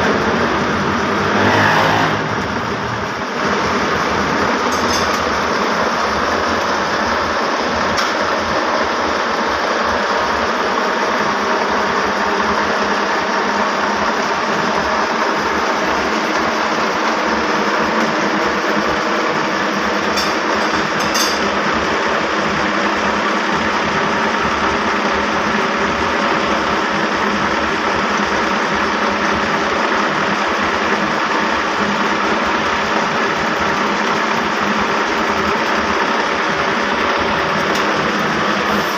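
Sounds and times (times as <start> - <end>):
loom machinery din: 0.0 - 38.9.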